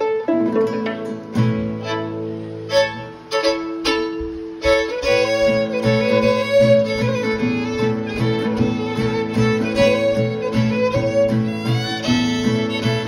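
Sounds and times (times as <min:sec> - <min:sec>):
solo fiddle playing a tune: 0:00.0 - 0:13.0.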